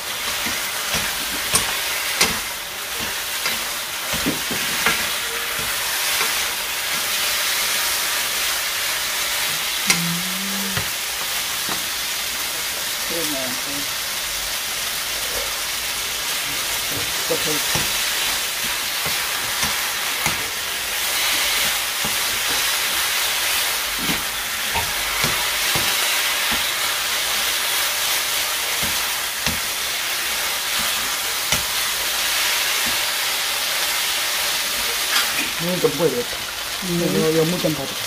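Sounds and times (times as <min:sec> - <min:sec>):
noodles sizzling in a wok: 0:00.0 - 0:38.0.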